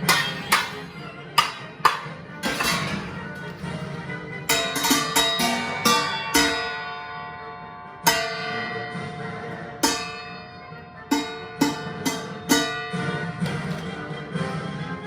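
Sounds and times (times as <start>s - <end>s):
metal pot struck and ringing: 0.0s - 3.2s, 4.5s - 13.9s
march music: 0.0s - 15.0s.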